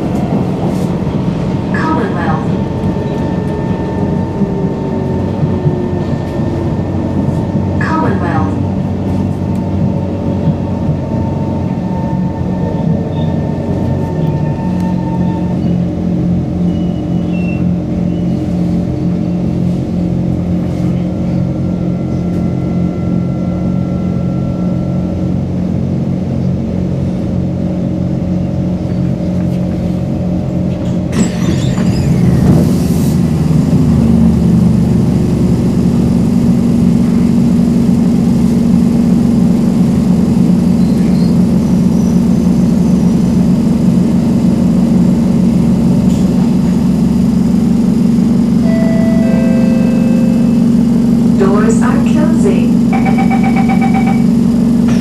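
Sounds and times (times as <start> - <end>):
electric train hum: 0.0 - 55.0.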